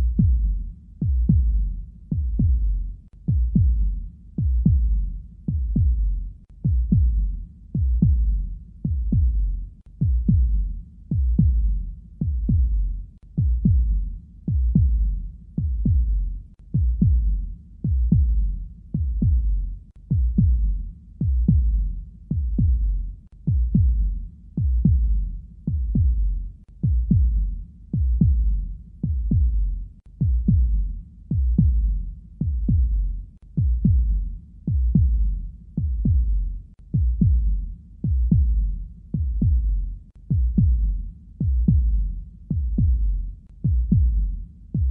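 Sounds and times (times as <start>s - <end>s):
heartbeat thumps: 0.0s - 44.9s.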